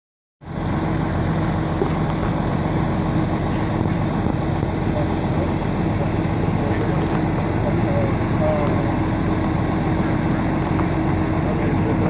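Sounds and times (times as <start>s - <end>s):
car fire rumbling: 0.4s - 12.0s
low hum: 0.4s - 12.0s.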